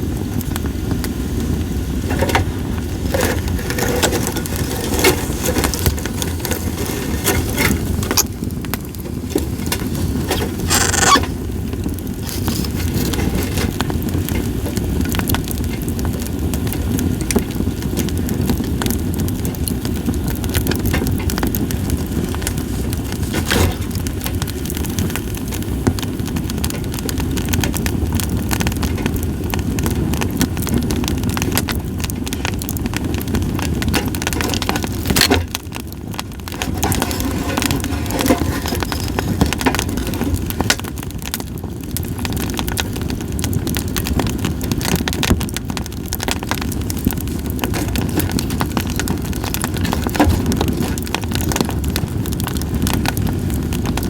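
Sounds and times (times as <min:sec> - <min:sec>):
campfire logs crackling: 0:00.0 - 0:54.0.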